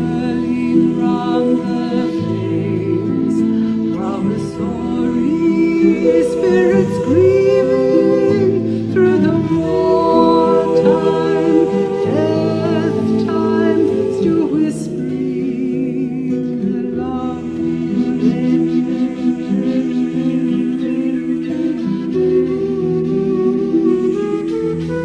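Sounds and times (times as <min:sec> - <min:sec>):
women's choir singing in harmony: 0:00.0 - 0:25.0.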